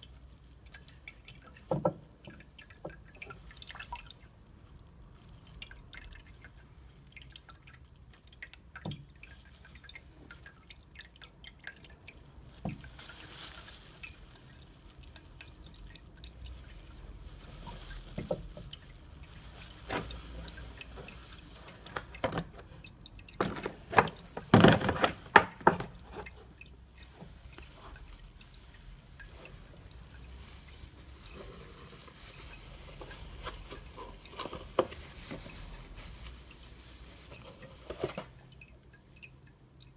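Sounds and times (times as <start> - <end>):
fuel dripping: 0.0 - 24.5, 25.2 - 36.9.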